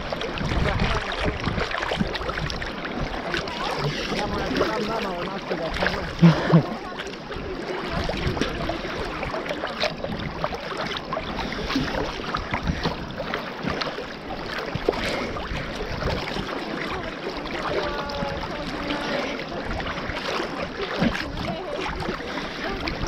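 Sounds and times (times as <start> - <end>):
steady wash of water: 0.0 - 23.0
water splashing at microphone: 0.0 - 23.0.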